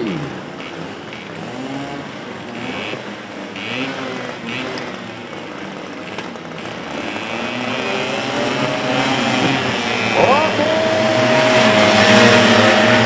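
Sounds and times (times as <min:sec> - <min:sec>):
scooter engines revving: 0:00.0 - 0:13.0.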